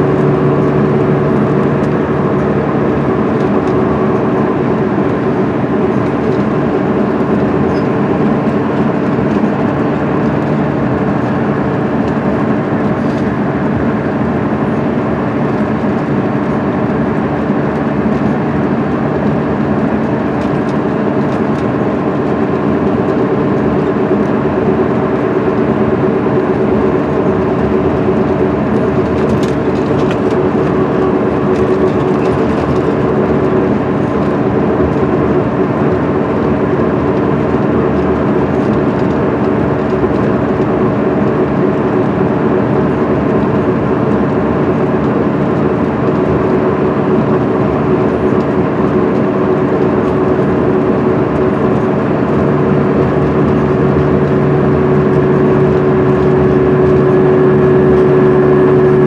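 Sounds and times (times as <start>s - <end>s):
bus diesel engine cruising: 0.0s - 59.0s
road and tyre noise: 0.0s - 59.0s.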